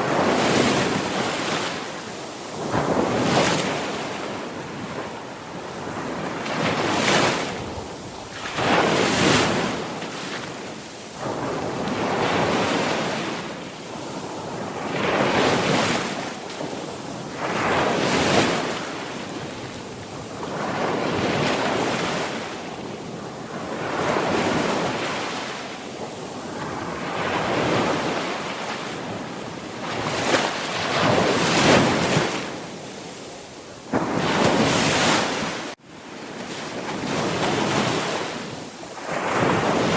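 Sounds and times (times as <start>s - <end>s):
sea waves breaking on shore: 0.0s - 39.9s
wind on microphone: 0.0s - 39.9s.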